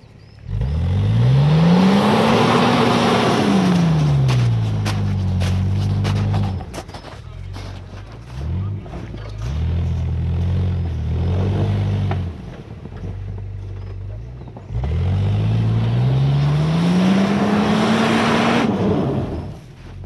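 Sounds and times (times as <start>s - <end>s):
engine revving: 0.4s - 6.8s, 8.2s - 19.7s.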